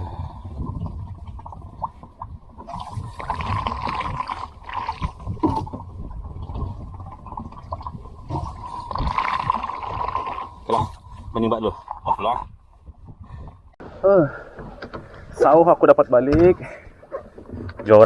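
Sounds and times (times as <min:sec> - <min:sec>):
water splashing and gurgling: 0:00.0 - 0:15.5.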